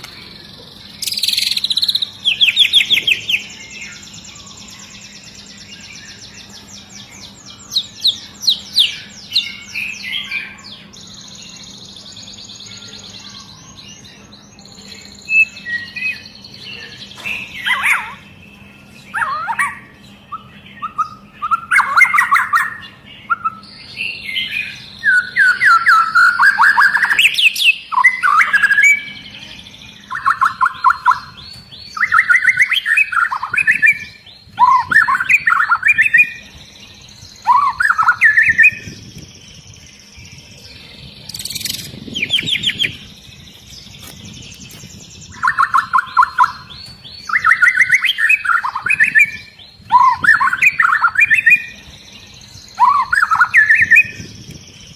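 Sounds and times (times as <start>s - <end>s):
bird singing rapid notes: 0.0s - 54.9s.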